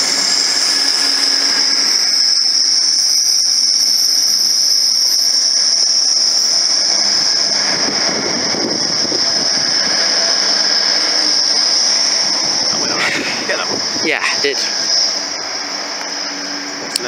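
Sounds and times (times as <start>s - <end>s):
diesel train pulling away: 0.0s - 17.0s
high-pitched whine: 0.0s - 17.0s
rough rumble: 0.0s - 17.0s.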